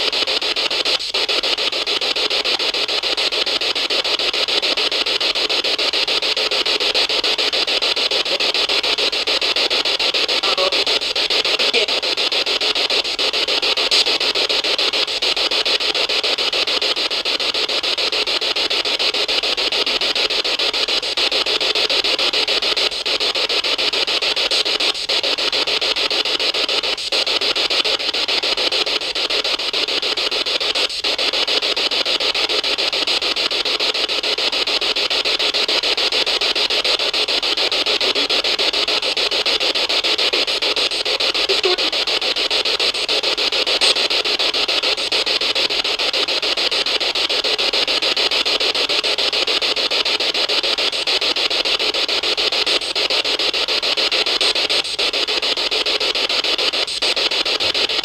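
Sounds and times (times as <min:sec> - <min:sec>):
steady loud static hiss: 0:00.0 - 0:58.0.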